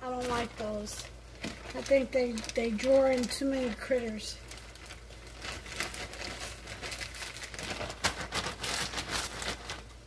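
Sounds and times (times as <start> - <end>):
packaging being crumpled: 0.0 - 10.0.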